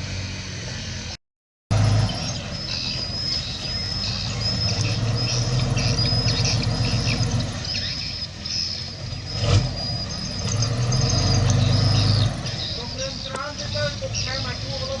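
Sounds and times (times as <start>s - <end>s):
bulldozer diesel engine humming: 0.0s - 15.0s
steel tracks squeaking: 1.7s - 15.0s.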